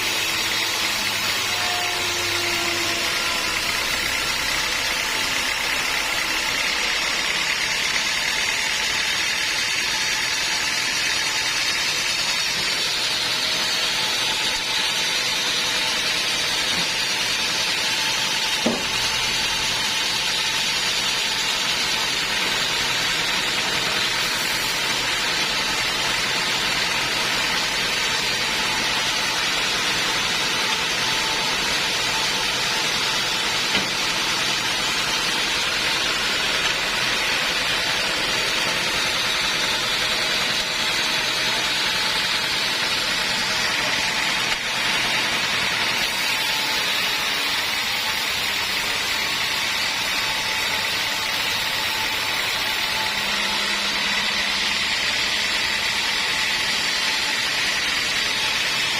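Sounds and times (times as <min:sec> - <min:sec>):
band sawmill sawing wood: 0:00.0 - 0:58.9.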